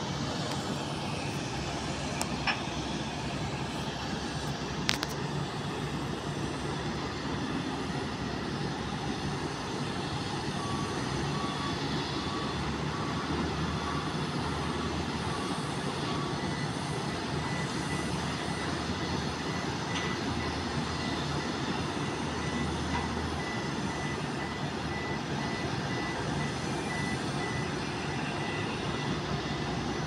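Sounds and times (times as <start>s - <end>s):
low rumble of aircraft: 0.0s - 30.0s
vehicle reversing alarm beeping: 0.4s - 30.0s.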